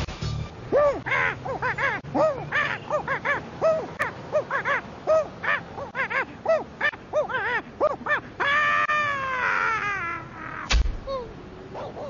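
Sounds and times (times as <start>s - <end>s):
monkey hooting: 0.7s - 12.0s.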